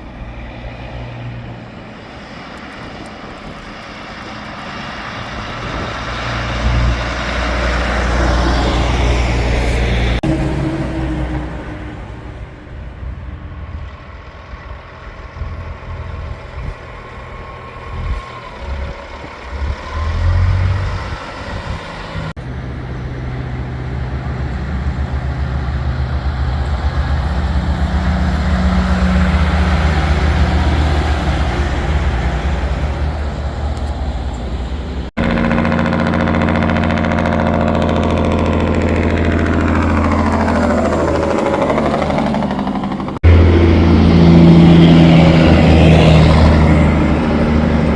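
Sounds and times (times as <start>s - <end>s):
diesel truck engine rumbling: 0.0s - 47.9s.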